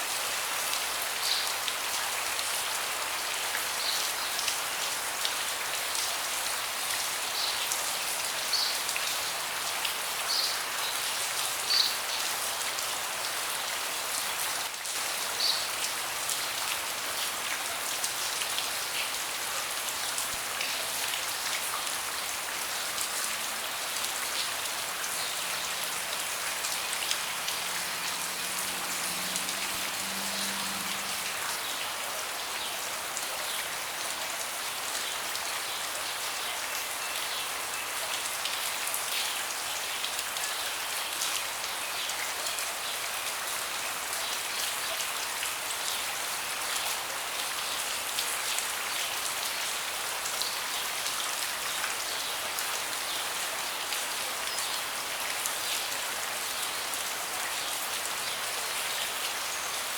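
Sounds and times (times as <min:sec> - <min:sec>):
rain falling on a deck: 0:00.0 - 0:59.9.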